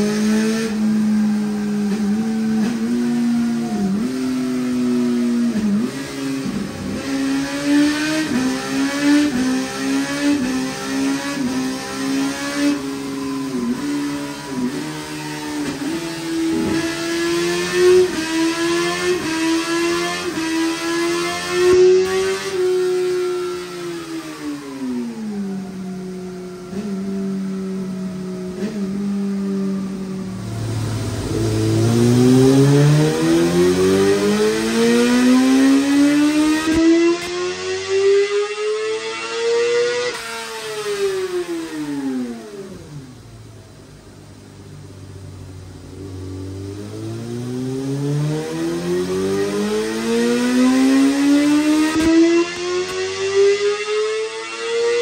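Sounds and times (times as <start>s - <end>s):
motorcycle engine on dyno: 0.0s - 55.0s.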